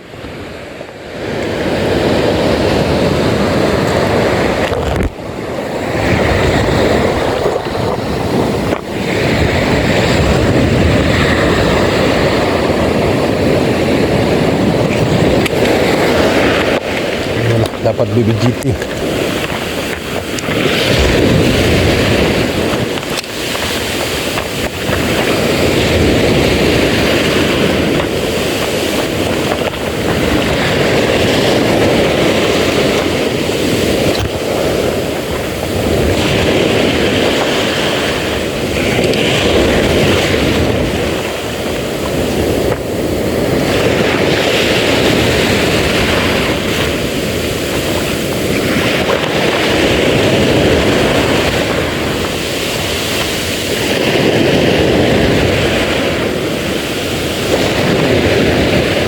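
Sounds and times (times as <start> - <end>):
sea: 0.0 - 59.0
wind buffeting microphone: 0.0 - 59.0.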